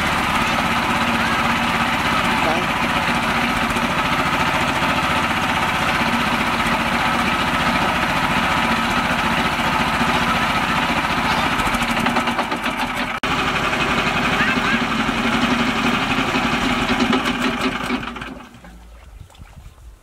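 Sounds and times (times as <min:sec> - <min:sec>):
small tractor engine running: 0:00.0 - 0:18.9.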